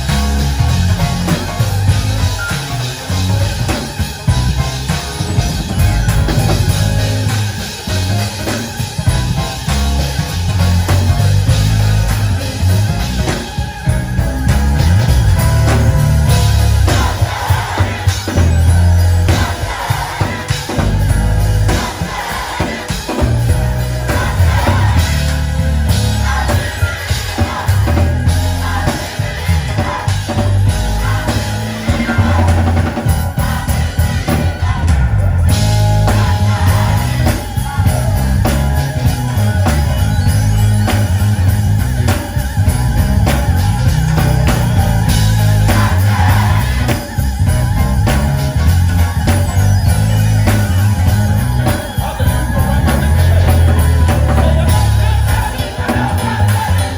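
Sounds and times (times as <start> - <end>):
gospel band with heavy bass: 0.0 - 56.9
voices singing: 0.0 - 56.9.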